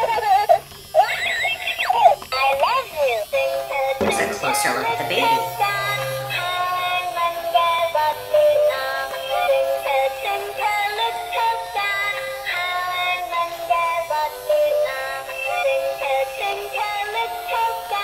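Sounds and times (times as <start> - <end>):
toy doll electronic singing: 0.0 - 18.0.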